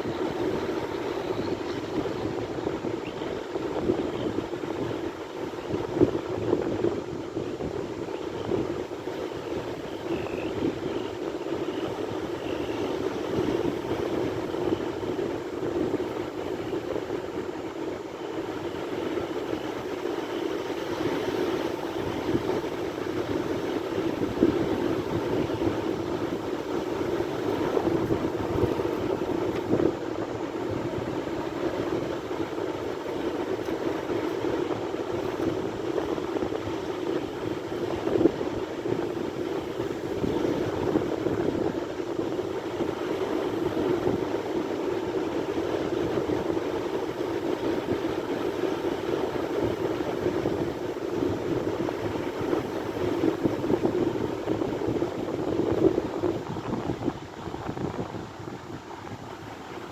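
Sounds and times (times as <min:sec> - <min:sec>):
sea waves rushing: 0:00.0 - 0:05.6, 0:08.9 - 0:59.9.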